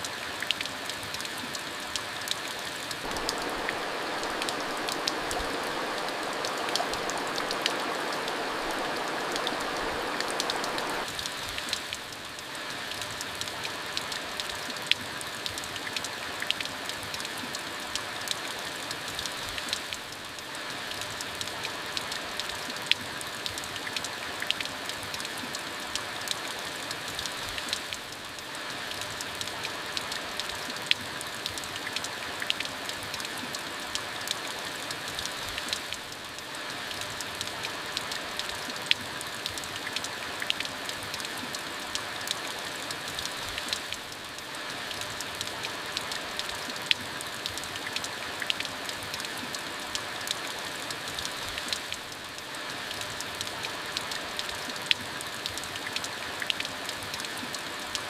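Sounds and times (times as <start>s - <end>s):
rain drops ticking on a surface: 0.0s - 58.0s.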